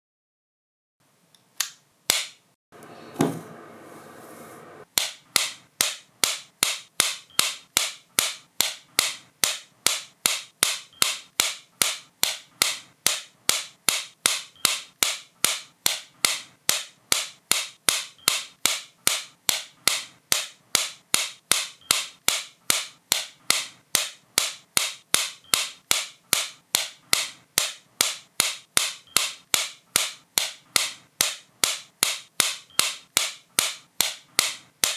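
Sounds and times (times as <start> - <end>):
sharp clicks: 4.9 - 34.9.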